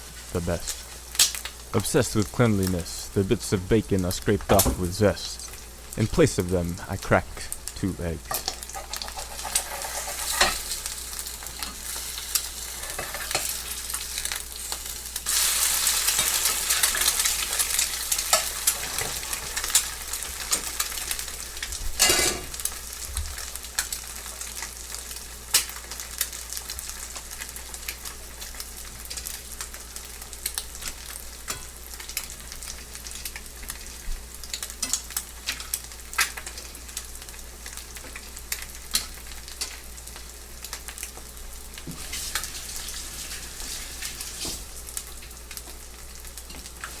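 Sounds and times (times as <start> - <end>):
eggs sizzling in a pan: 0.0 - 47.0.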